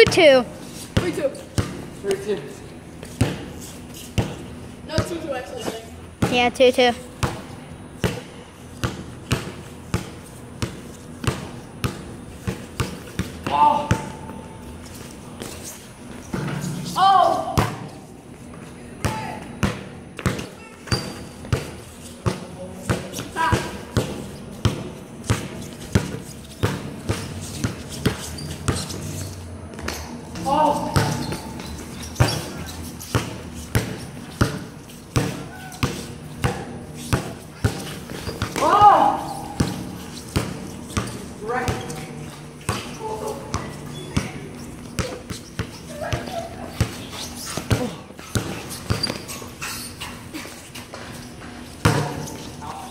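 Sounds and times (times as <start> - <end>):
basketball bouncing on concrete: 0.0 - 1.8, 3.0 - 14.4, 17.4 - 17.9, 19.0 - 49.4, 50.8 - 52.7.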